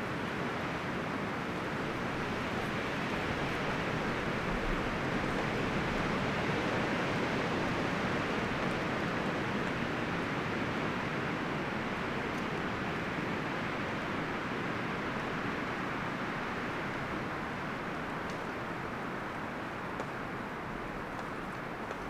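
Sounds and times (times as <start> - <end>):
wind rustling forest trees: 0.0 - 22.0.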